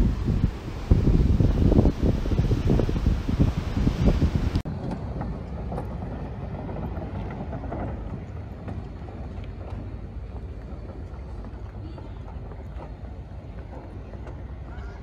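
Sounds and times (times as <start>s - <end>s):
outdoor background noise: 0.0s - 15.0s
wind buffeting microphone: 0.0s - 15.0s.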